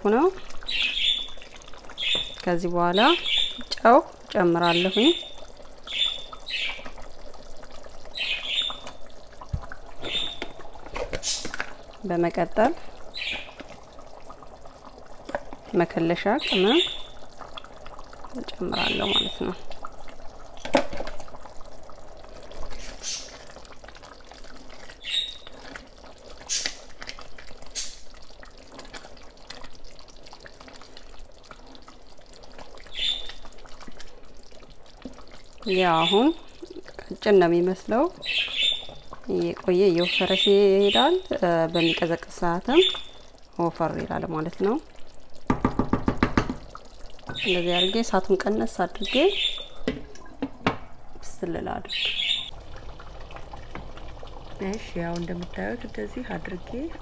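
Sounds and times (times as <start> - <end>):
stew bubbling and popping: 0.0 - 57.0.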